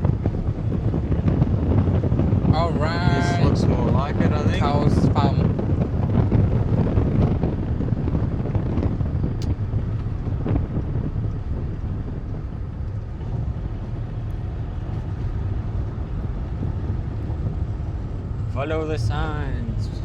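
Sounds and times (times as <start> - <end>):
car engine and tyre rumble: 0.0 - 20.0
wind on microphone: 0.0 - 20.0.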